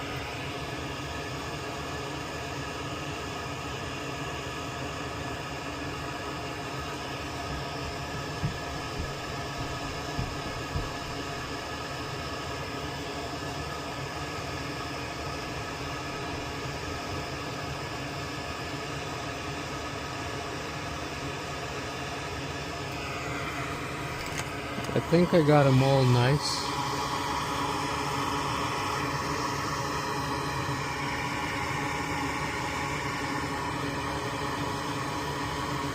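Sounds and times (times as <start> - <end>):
fan motor whirring hum: 0.0 - 35.9.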